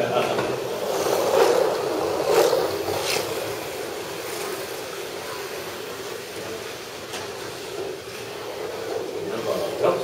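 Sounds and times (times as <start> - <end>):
toy electric cars humming: 0.6 - 10.0.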